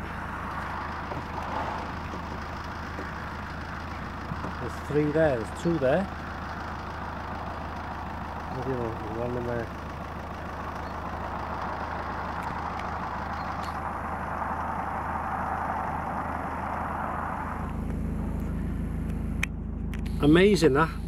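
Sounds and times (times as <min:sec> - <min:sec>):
van engine idling: 0:00.0 - 0:21.0.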